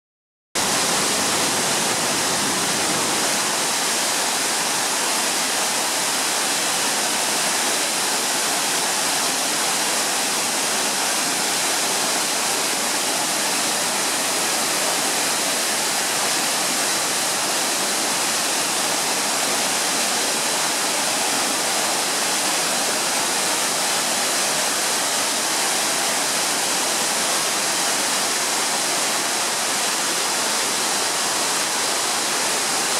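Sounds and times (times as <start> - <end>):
waterfall rushing: 0.6 - 32.9.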